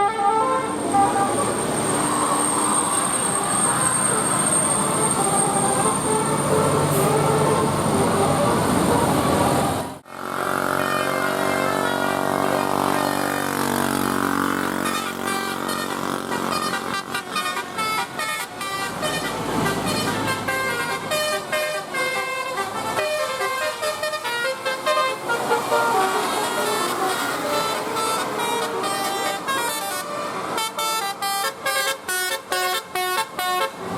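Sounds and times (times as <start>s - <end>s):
musical bus air horn: 0.0s - 33.9s
steady vehicle sound: 0.0s - 33.9s.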